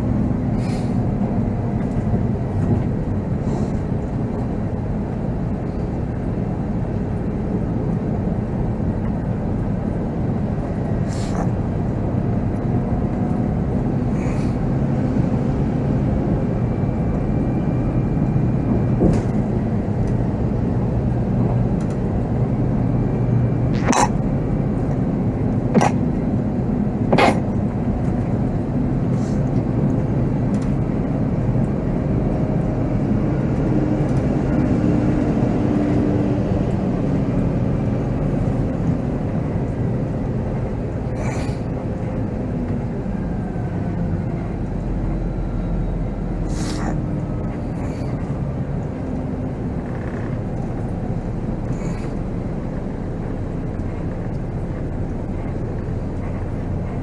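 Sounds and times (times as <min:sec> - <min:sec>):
diesel engine droning: 0:00.0 - 0:57.0
road noise: 0:00.0 - 0:57.0.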